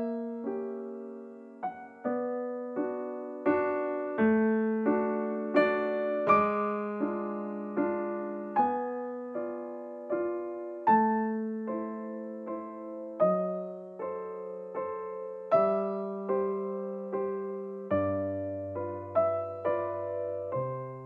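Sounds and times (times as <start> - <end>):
slow solo piano: 0.0 - 21.0.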